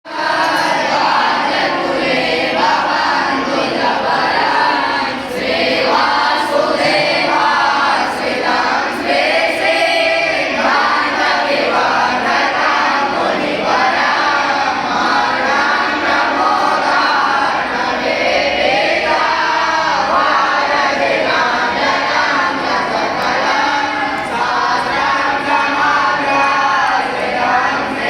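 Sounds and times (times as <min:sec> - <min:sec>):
boys chanting in unison: 0:00.0 - 0:28.0.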